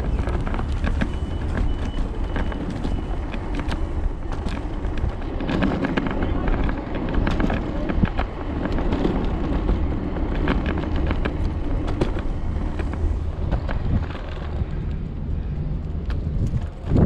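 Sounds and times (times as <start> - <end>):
scooter rolling noise: 0.0 - 17.0
sharp clicks and rattles: 0.0 - 17.0
wind on microphone: 0.0 - 17.0.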